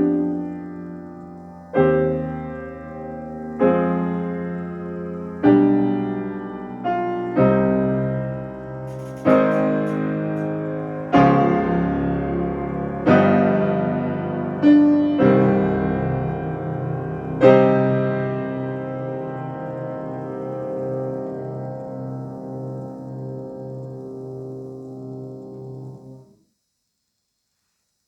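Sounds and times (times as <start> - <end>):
solo piano slow chords: 0.0 - 26.4.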